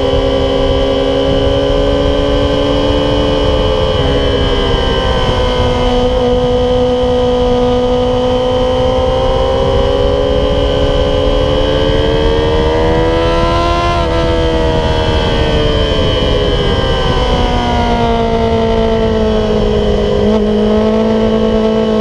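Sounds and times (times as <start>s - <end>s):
motorcycle engine revving: 0.0s - 22.0s
wind rush on microphone: 0.0s - 22.0s.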